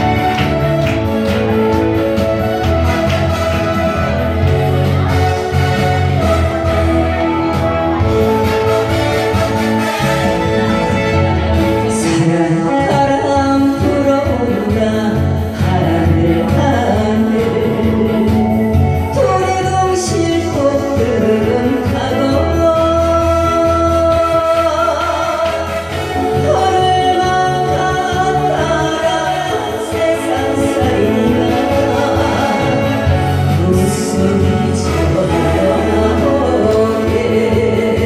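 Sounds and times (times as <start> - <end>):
instrumental accompaniment with bass beat: 0.0 - 38.0
woman singing: 0.0 - 38.0.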